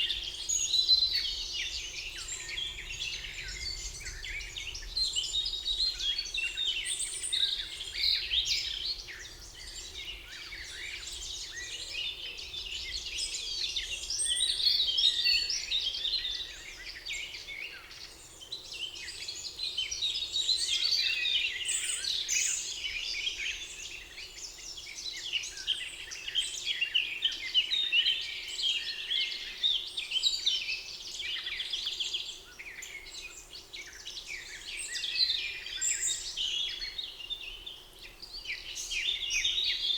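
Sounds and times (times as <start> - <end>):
birds singing in chorus: 0.0 - 39.9.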